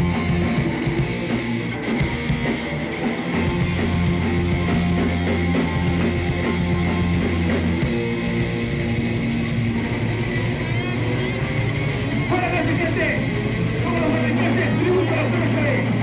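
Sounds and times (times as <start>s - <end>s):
punk rock band playing: 0.0s - 16.0s.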